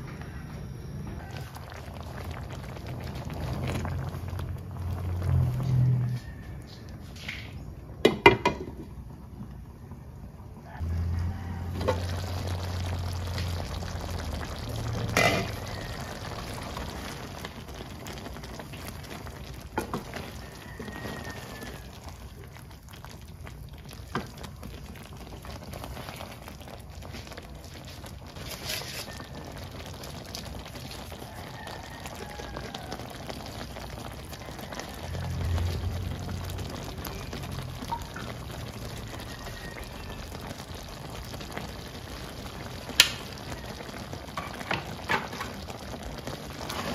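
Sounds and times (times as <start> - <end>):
pasta sauce bubbling in a pan: 1.1 - 7.0, 7.6 - 46.9.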